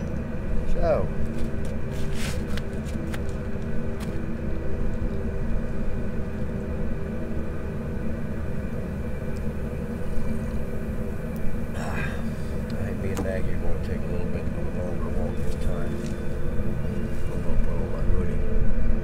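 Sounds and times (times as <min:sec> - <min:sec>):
low rumble with hum: 0:00.0 - 0:19.0.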